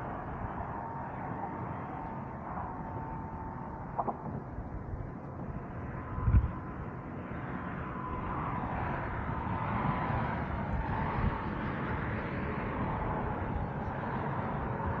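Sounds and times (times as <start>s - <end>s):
faint whine falling in pitch: 0.0s - 15.0s
steady outdoor rumble: 0.0s - 15.0s.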